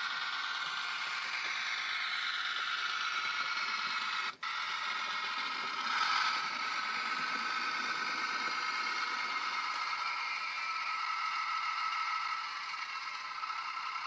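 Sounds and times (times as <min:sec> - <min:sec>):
high steady tones: 0:00.0 - 0:13.8
diesel locomotive running: 0:00.0 - 0:14.0.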